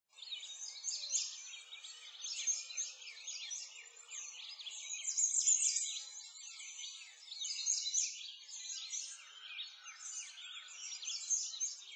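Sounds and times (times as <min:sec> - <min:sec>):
birds chirping and singing: 0:00.2 - 0:11.9.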